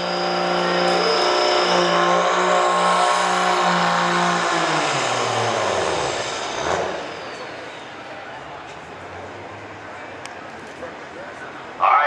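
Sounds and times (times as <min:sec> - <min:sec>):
truck diesel engine at full throttle: 0:00.0 - 0:11.7.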